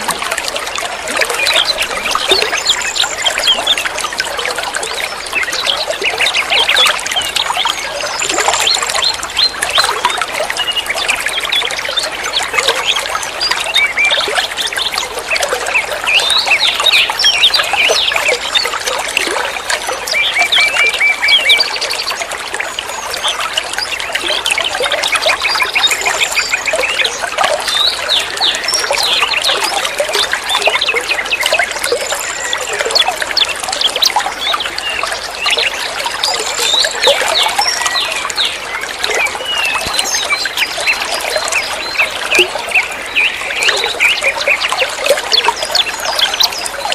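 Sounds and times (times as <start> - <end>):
water trickling: 0.0 - 46.9
small birds chirping: 1.2 - 18.9, 19.6 - 46.9.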